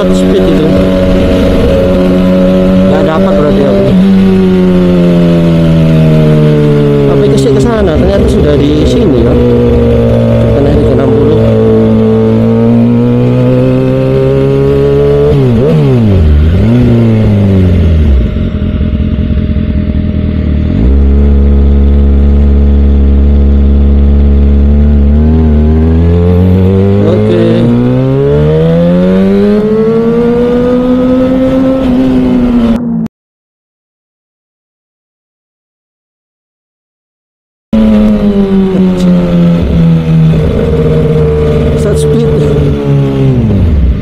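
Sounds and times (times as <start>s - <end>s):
motorcycle engine revving: 0.0s - 33.1s, 37.8s - 44.0s.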